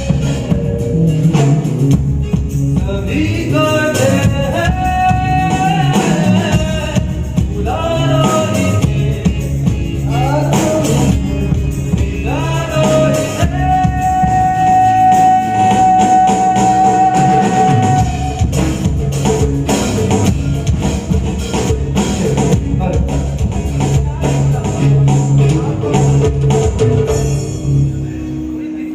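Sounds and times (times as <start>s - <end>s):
music with lead melody: 0.0s - 28.9s.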